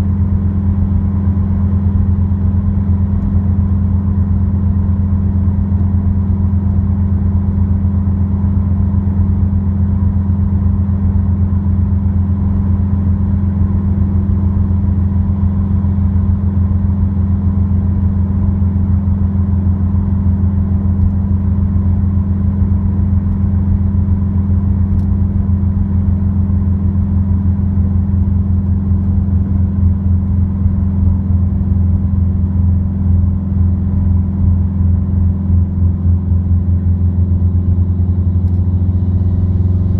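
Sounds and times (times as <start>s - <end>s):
car exhaust drone in cabin: 0.0s - 39.9s.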